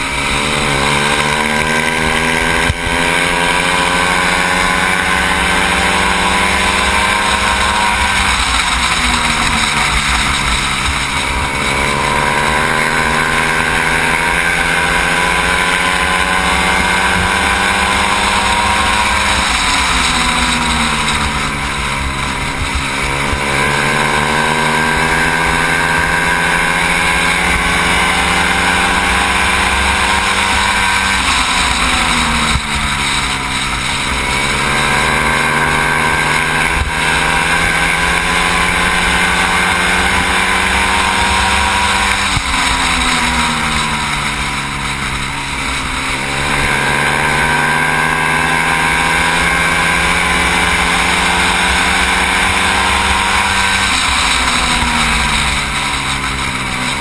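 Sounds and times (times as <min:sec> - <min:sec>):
racing motorcycle engine: 0:00.0 - 0:57.0.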